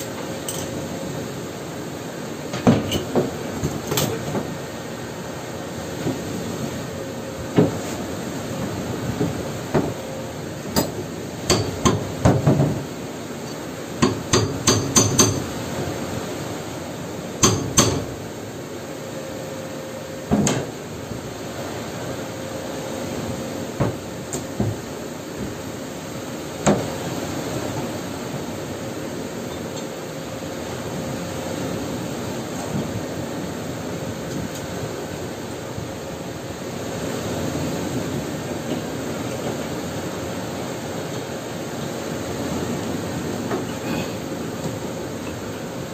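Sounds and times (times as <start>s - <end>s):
faint hum and hiss: 0.0s - 45.9s.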